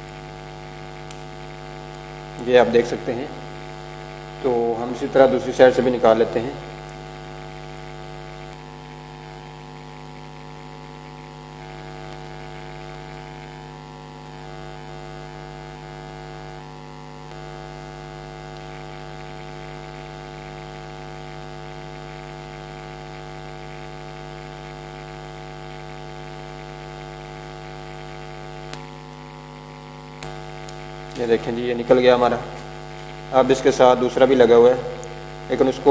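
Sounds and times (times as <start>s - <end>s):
electrical mains hum: 0.0s - 35.9s.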